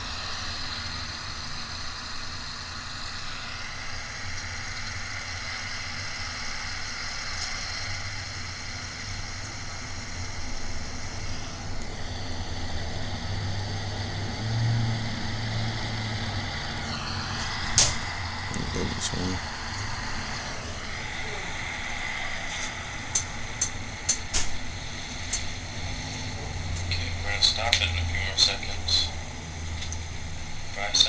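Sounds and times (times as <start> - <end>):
hiss: 0.0 - 31.0.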